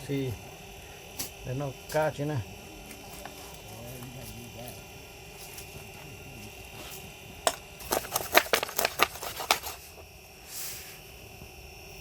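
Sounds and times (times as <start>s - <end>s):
faint high-pitched hum: 0.0s - 12.0s.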